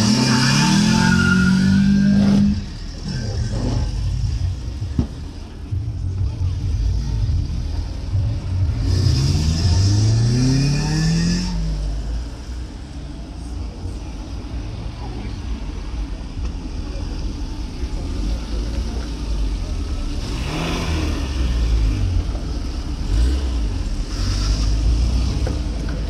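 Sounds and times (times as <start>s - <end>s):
car engine revving: 0.0s - 12.7s, 17.3s - 26.0s
cars idling: 2.2s - 8.9s, 11.8s - 26.0s.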